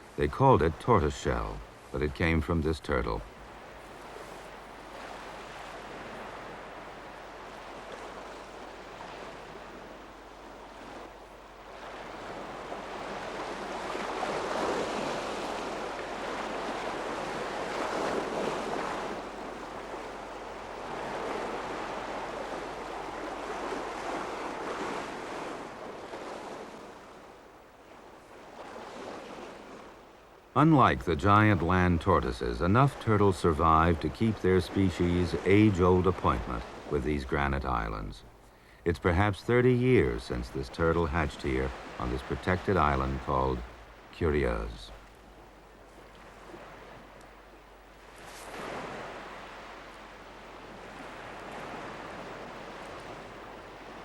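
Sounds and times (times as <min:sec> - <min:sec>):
sea surf washing up beach: 0:00.0 - 0:54.0.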